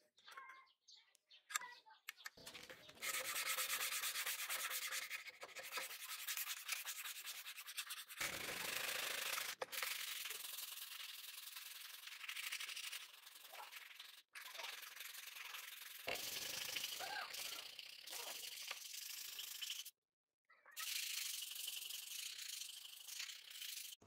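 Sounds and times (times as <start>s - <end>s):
sandpaper scratching steel blade: 2.5s - 19.9s, 20.8s - 24.0s.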